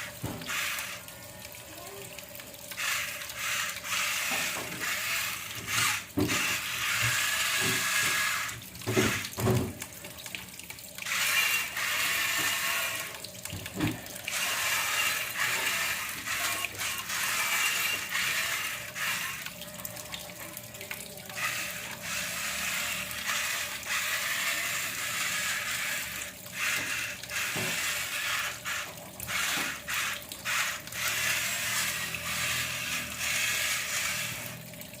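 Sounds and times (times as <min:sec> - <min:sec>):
small electric motor whine: 0:00.0 - 0:01.1, 0:02.7 - 0:09.3, 0:11.0 - 0:13.2, 0:14.3 - 0:19.5, 0:21.4 - 0:34.7.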